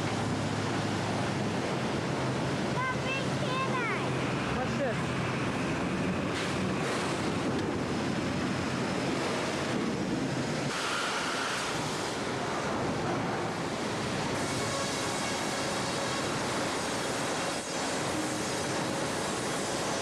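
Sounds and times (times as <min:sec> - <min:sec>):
sawmill machinery din: 0:00.0 - 0:20.0.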